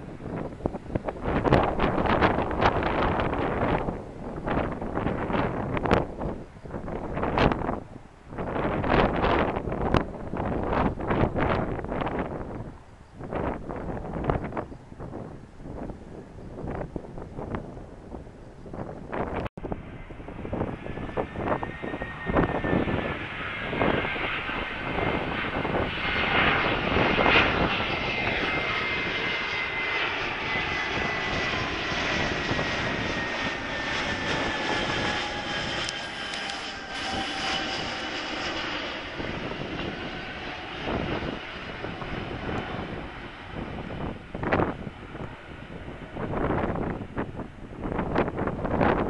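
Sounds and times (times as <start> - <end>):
jet plane flying over: 0.0 - 49.0
wind buffeting microphone: 0.0 - 49.0.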